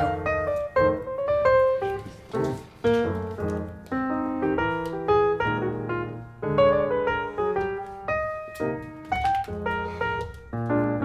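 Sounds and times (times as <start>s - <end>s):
solo piano music: 0.0s - 11.0s.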